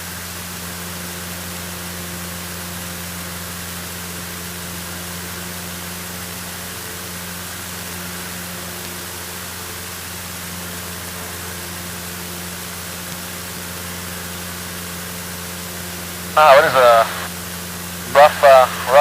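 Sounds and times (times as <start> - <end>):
airplane engine droning: 0.0 - 19.0
constant hiss: 0.0 - 19.0.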